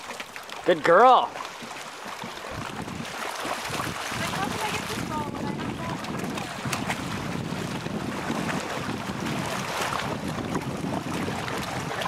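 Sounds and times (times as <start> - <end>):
water lapping and splashing: 0.0 - 12.0
wind buffeting microphone: 2.2 - 12.0.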